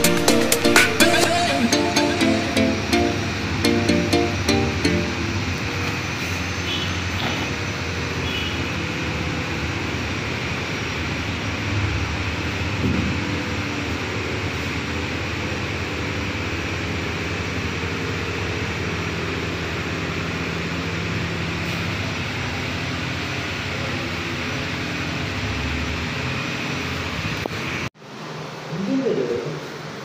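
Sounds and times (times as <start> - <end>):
machinery motor humming: 0.0 - 27.9.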